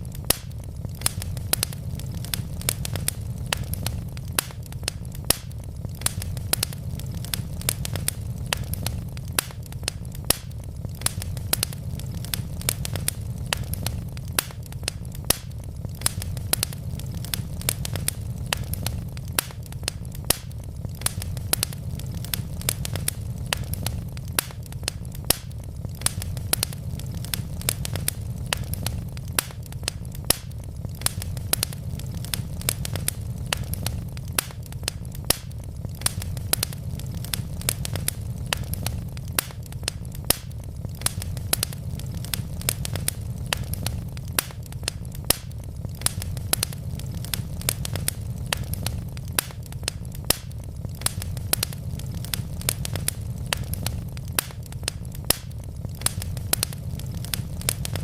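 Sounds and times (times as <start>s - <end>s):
logs crackling and popping: 0.0s - 58.0s
low rumble of flame: 0.0s - 58.0s.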